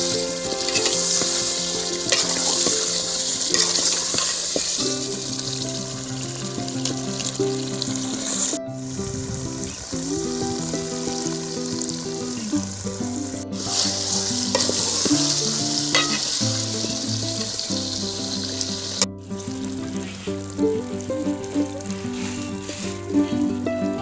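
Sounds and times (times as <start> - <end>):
food sizzling in a pan: 0.0 - 24.0
soft background music: 0.0 - 24.0.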